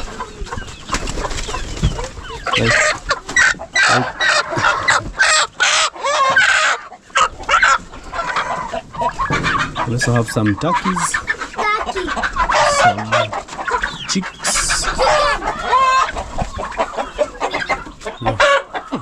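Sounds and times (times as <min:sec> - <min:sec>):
chickens clucking and squawking: 0:00.0 - 0:19.0.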